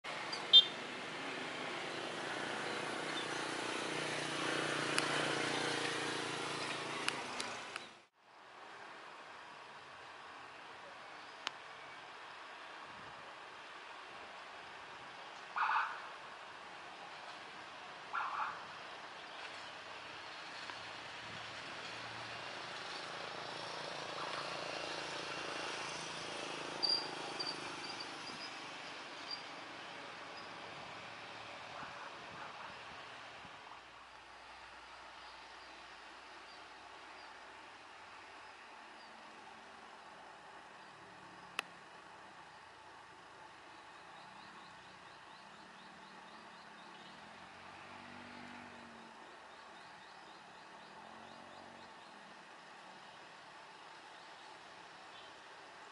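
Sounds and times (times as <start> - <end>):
motorcycles: 0.0 - 8.1, 17.2 - 55.9
vehicles passing on road: 0.0 - 55.9.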